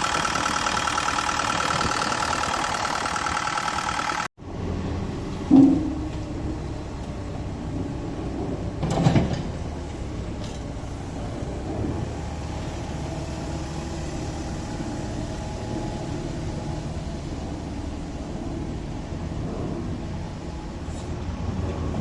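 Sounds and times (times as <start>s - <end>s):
diesel excavator engine running: 0.0s - 22.0s.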